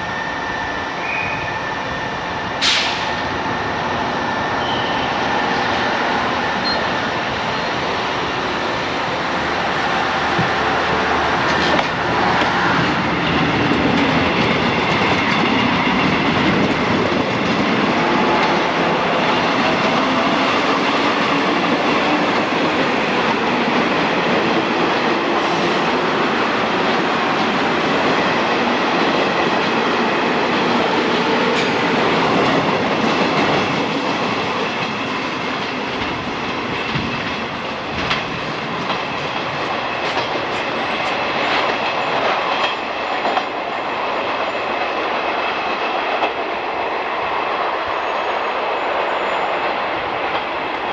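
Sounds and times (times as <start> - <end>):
electric train running: 0.0 - 50.9.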